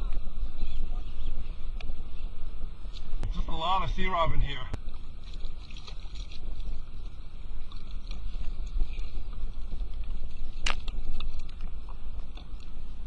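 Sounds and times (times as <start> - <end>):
low rumble of wind and water: 0.0 - 13.0.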